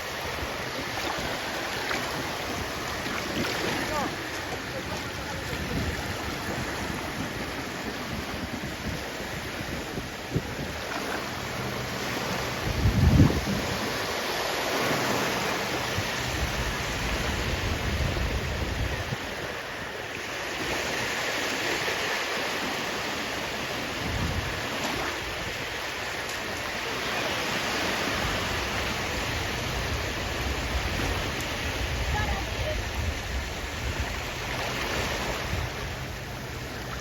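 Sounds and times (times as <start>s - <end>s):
sea waves washing on shore: 0.0s - 37.0s
wind rumble on microphone: 0.0s - 37.0s.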